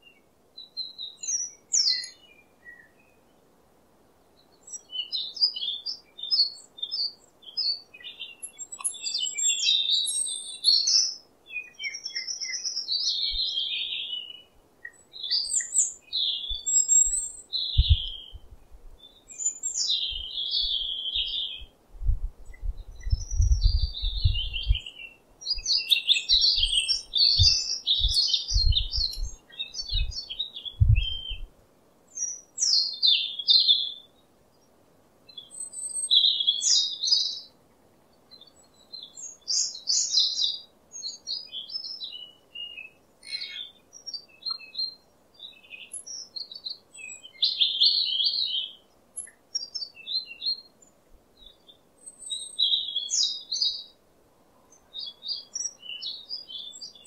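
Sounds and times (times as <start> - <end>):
robin singing: 0.0 - 3.5, 4.2 - 31.5, 32.1 - 54.0, 54.6 - 57.0.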